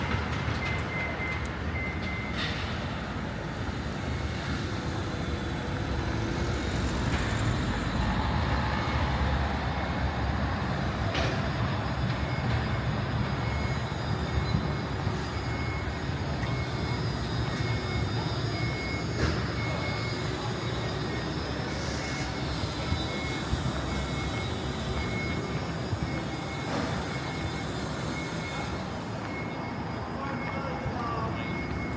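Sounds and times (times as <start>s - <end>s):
city traffic rumble: 0.0s - 31.9s.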